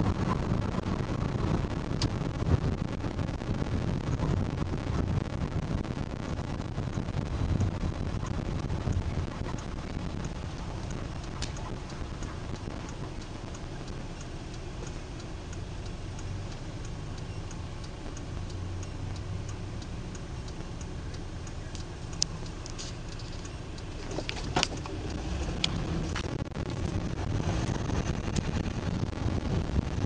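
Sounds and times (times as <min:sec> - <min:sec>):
engine and road rumble: 0:00.0 - 0:30.0
quick regular ticking: 0:01.1 - 0:30.0.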